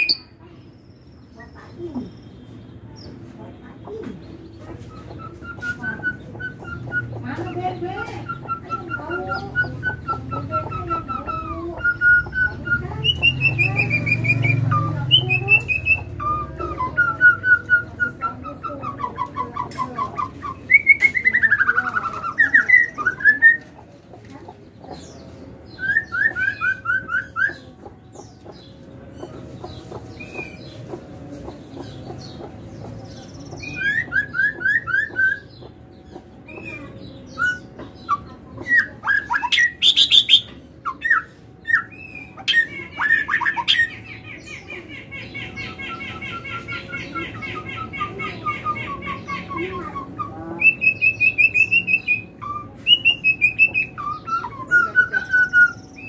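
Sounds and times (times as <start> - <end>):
songbird trilling: 0.0 - 3.2, 3.8 - 56.0.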